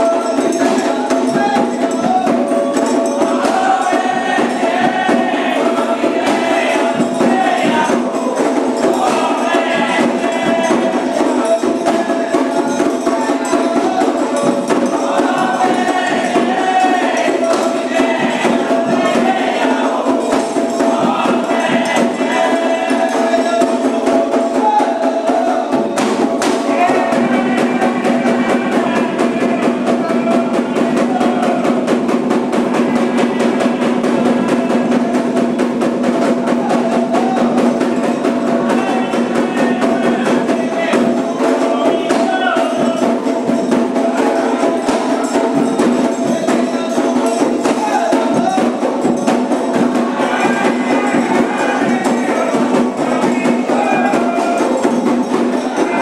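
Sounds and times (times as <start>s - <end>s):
group singing: 0.0s - 56.0s
hand drums: 0.0s - 56.0s
struck bell rhythm: 0.0s - 56.0s.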